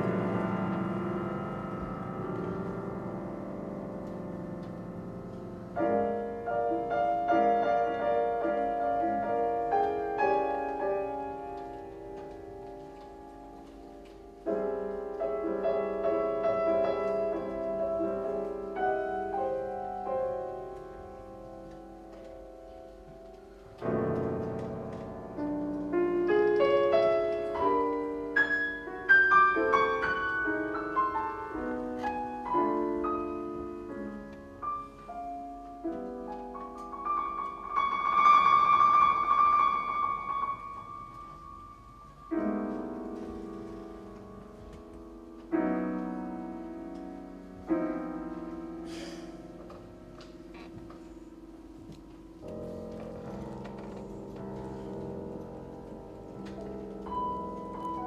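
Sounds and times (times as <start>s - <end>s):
piano playing chords and runs: 0.0s - 58.0s.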